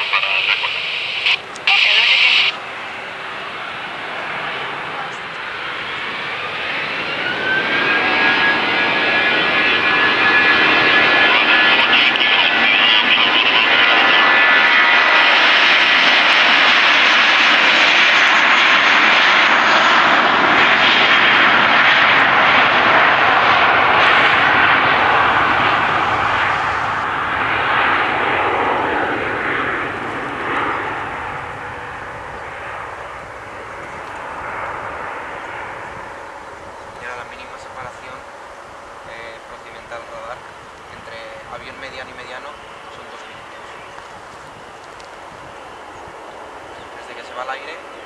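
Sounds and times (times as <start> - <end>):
jet engines at takeoff: 0.0 - 48.0.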